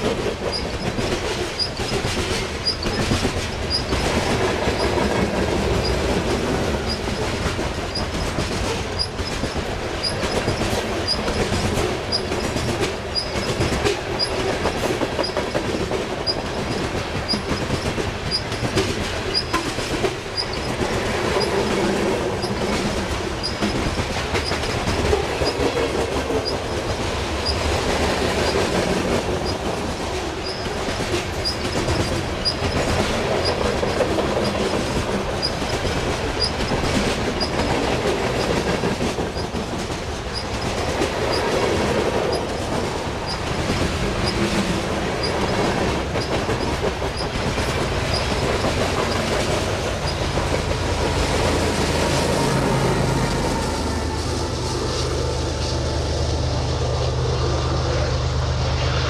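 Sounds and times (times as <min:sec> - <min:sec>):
wheels clacking over rail joints: 0:00.0 - 0:56.4
freight cars rumbling: 0:00.0 - 0:59.0.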